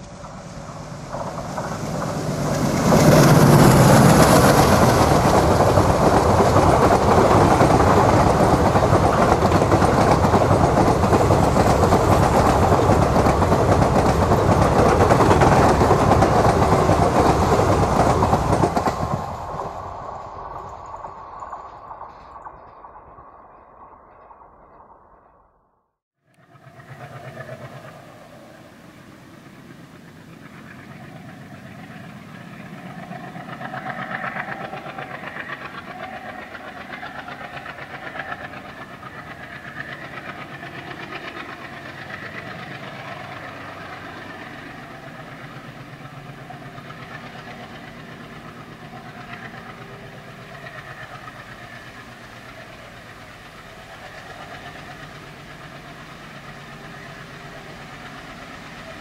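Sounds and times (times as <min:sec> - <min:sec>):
diesel locomotive engines droning: 0:00.0 - 0:25.5, 0:26.3 - 0:59.0.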